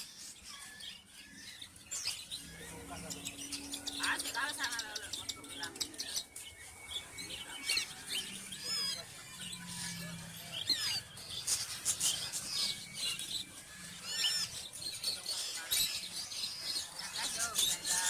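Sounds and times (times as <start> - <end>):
cockatiel chicks chirping: 0.0 - 18.0.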